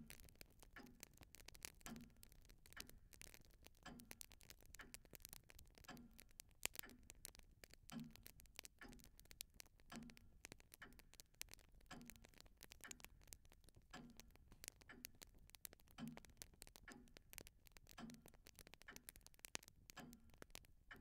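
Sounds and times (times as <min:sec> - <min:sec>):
clock ticking: 0:00.0 - 0:21.0
light crackles: 0:00.0 - 0:21.0.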